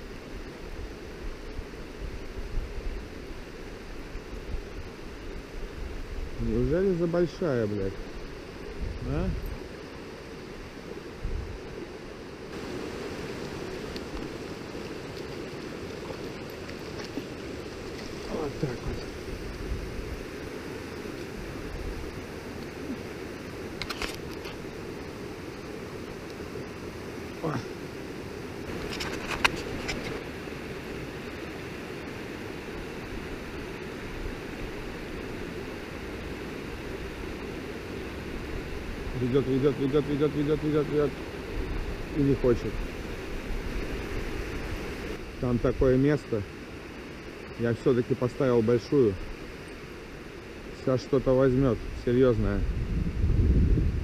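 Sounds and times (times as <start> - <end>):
river water flowing: 0.0 - 52.2.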